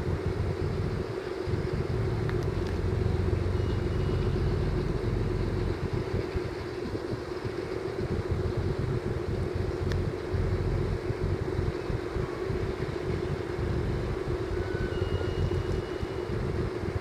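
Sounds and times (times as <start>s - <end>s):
ship engines running slow: 0.0s - 17.0s.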